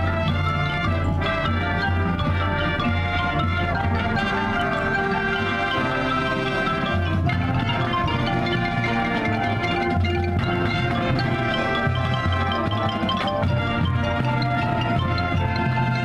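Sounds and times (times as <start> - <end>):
brass chords: 0.0 - 16.0
chimes: 0.0 - 16.0
marimba: 0.0 - 16.0.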